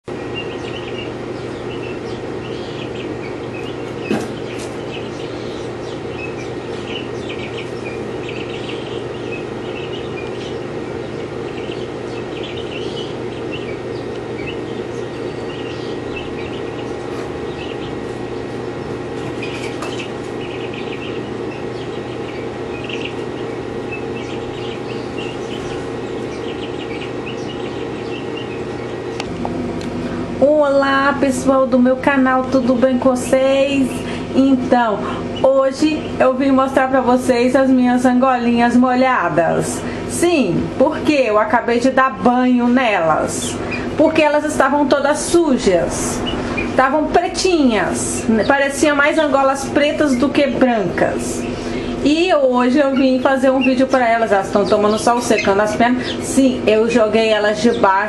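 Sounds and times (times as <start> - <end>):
steady low hum: 0.0 - 58.0
small birds chirping: 0.1 - 58.0.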